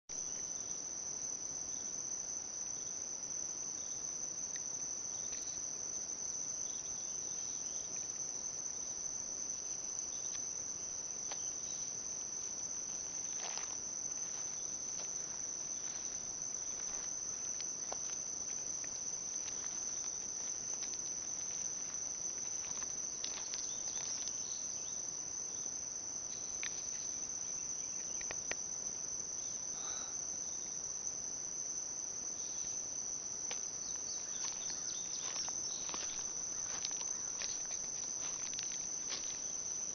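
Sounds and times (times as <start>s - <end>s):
insects singing: 0.1s - 39.9s.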